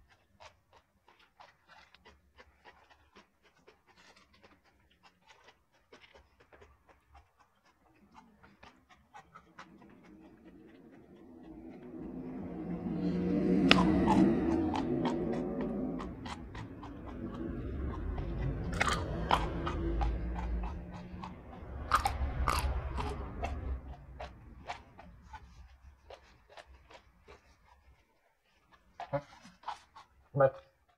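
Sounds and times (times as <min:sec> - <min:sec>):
wet clicking chewing sounds: 0:00.0 - 0:30.9.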